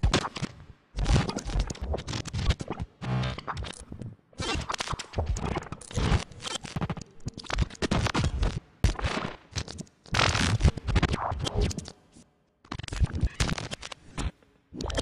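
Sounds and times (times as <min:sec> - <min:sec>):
crackling experimental noise music: 0:00.0 - 0:12.0, 0:12.6 - 0:15.0.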